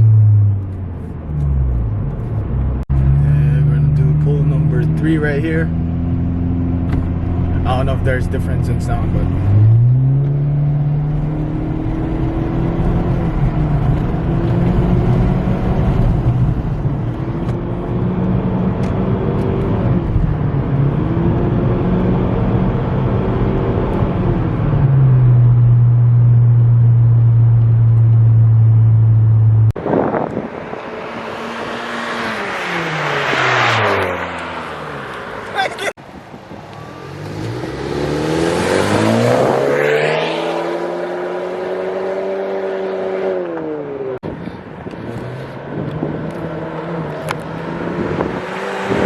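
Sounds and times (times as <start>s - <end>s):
car engine at full throttle: 0.0s - 49.0s.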